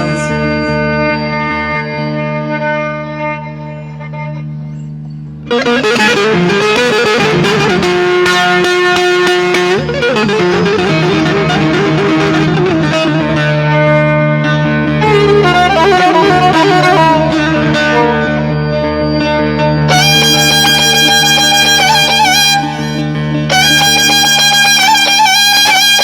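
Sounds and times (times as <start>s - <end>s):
held chord: 0.0s - 26.0s
low drone: 0.0s - 26.0s
plucked string instrument melody: 0.0s - 26.0s.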